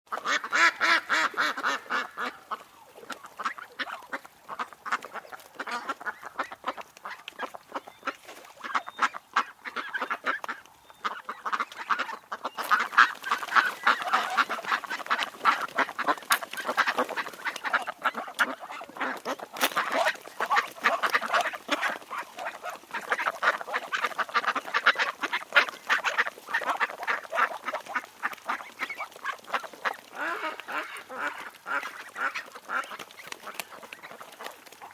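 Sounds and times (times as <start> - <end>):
ducks quacking: 0.1 - 34.9.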